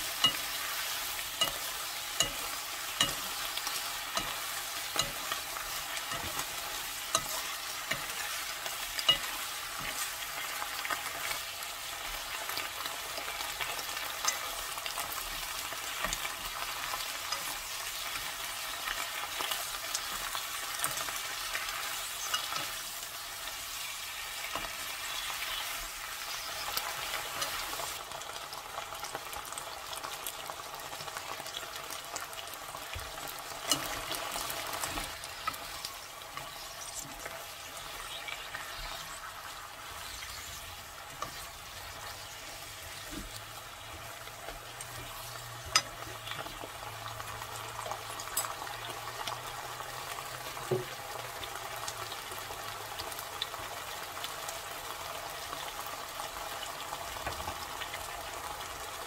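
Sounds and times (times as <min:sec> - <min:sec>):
vegetables sizzling in a wok: 0:00.0 - 0:59.0.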